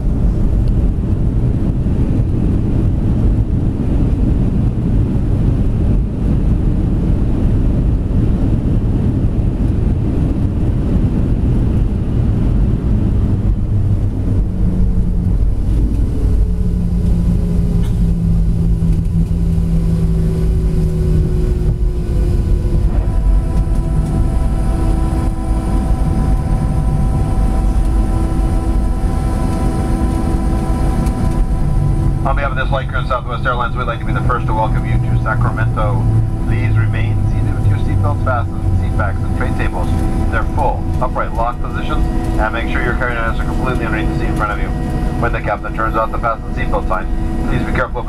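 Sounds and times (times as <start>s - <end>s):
jet cabin rumble: 0.0s - 48.0s
jet engine whine: 0.0s - 48.0s.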